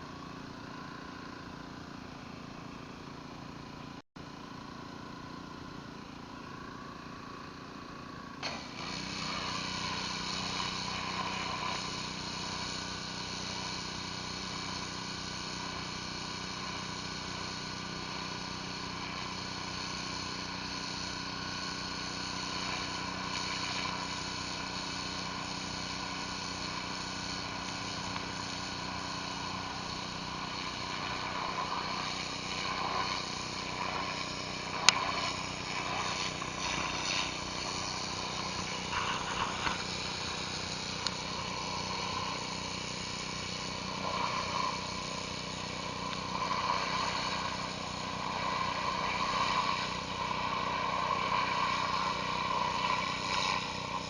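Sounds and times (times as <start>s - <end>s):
pressure washer engine drone: 0.0s - 54.0s
water spraying on concrete: 8.4s - 54.0s.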